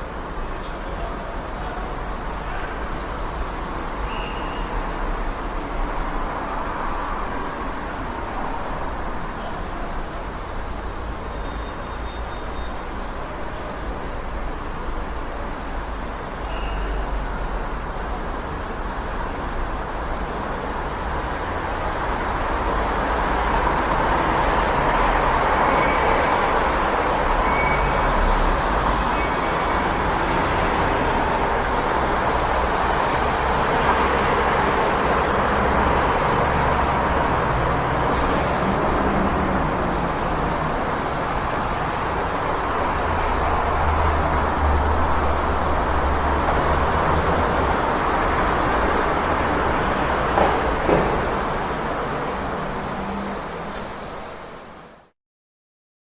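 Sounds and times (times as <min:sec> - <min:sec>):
passing road vehicles: 0:00.0 - 0:55.1.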